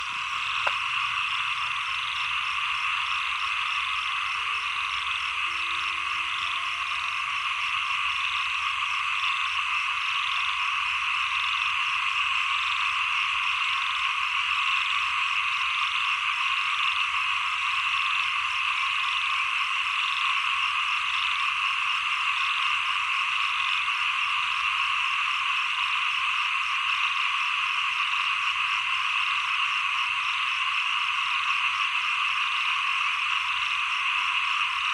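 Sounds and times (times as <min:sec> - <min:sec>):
chorus of small frogs calling: 0:00.0 - 0:34.9.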